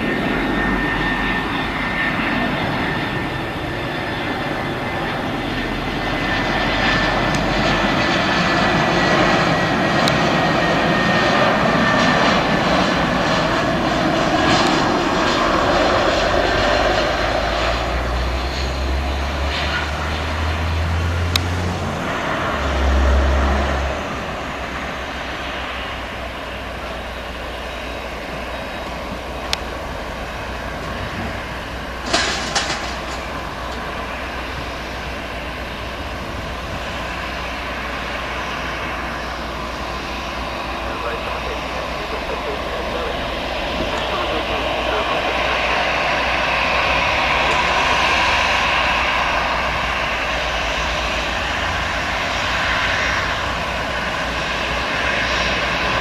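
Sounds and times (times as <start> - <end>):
jet engine noise: 0.0 - 56.0
jet engine whine: 0.0 - 56.0.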